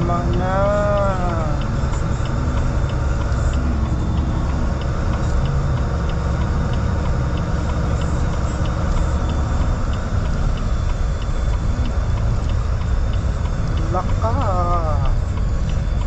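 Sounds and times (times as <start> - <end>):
car driving rumble: 0.0 - 16.0
light regular ticking: 0.0 - 16.0.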